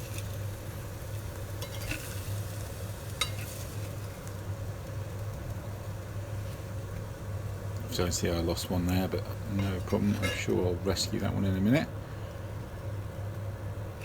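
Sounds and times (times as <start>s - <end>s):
low sizzling in sandwich maker: 0.0s - 14.0s.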